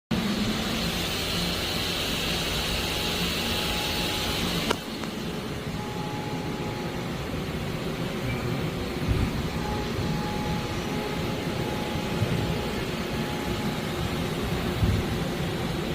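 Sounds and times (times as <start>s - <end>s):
machinery hum and hiss: 0.1s - 15.9s.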